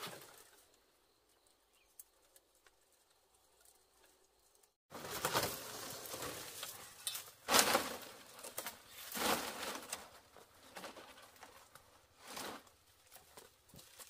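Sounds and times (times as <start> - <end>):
bamboo strips rustling and scraping: 1.7 - 14.0.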